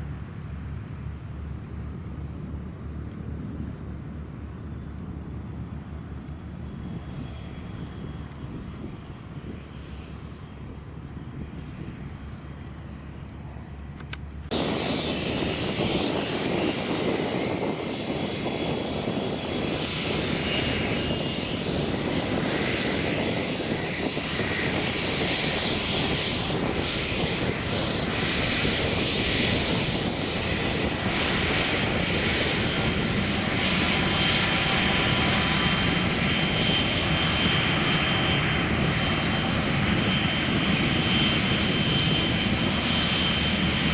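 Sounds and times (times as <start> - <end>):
airplane engine rumble: 0.0 - 43.9.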